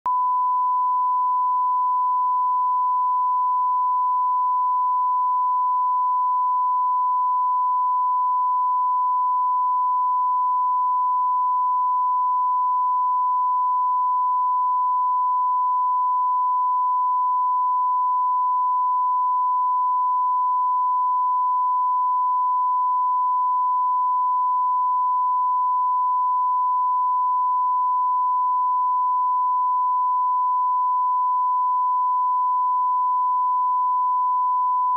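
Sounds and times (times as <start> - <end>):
steady sine test tone: 0.0 - 34.9.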